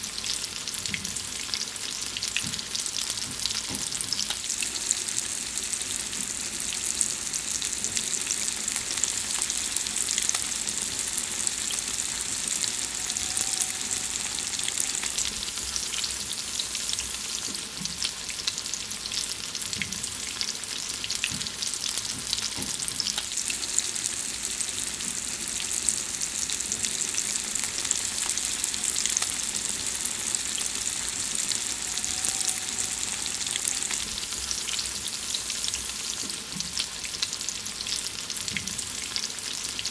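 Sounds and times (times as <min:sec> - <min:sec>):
food sizzling in hot fat: 0:00.0 - 0:39.9.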